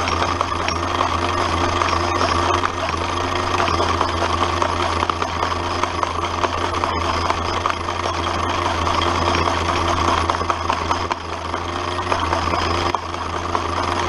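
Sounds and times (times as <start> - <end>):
crusher mechanical drone: 0.0 - 14.0.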